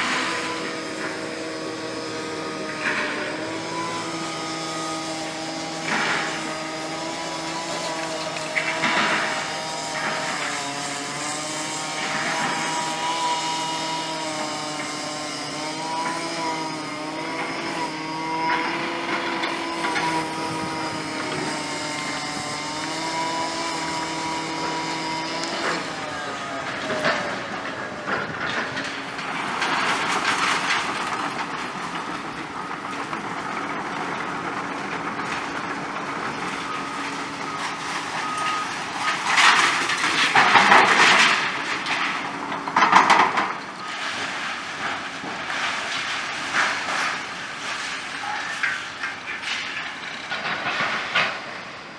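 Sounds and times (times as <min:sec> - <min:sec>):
excavator engine and hydraulics whine: 0:00.0 - 0:51.9.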